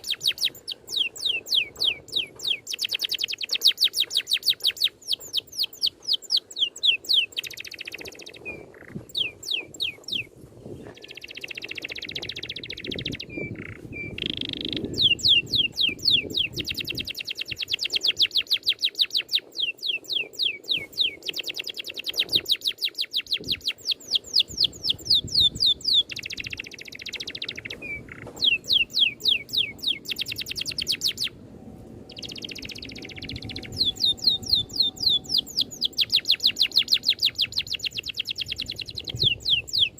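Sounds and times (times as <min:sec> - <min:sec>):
songbird trilling: 0:00.0 - 0:10.3, 0:10.9 - 0:31.4, 0:32.0 - 0:39.9.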